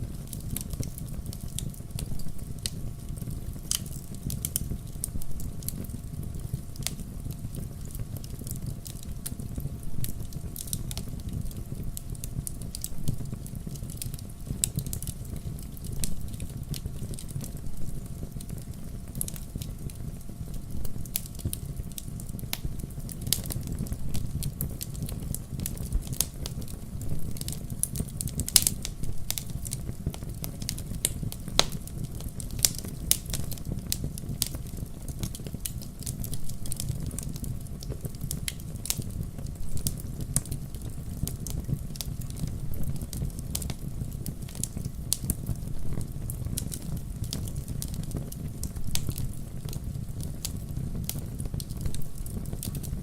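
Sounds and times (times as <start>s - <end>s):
fire flames rumbling: 0.0s - 53.0s
wood fire crackling and popping: 0.0s - 53.0s.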